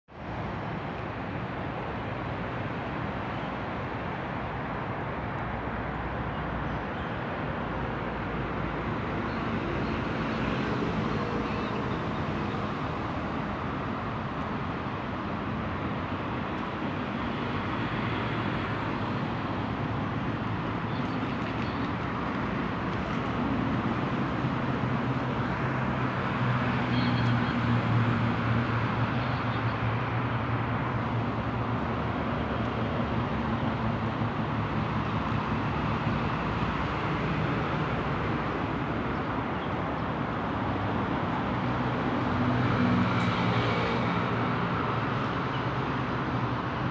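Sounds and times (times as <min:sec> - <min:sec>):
traffic and engine hum: 0:00.1 - 0:46.9.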